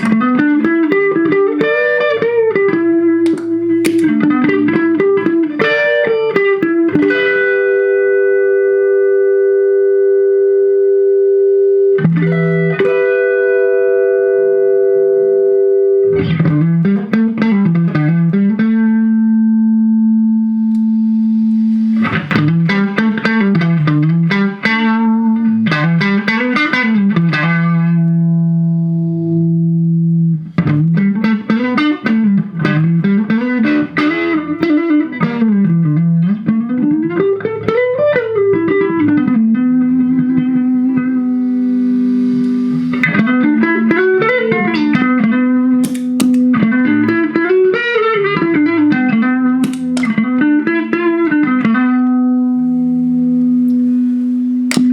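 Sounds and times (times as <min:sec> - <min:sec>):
electric guitar playing: 0:00.0 - 0:54.9.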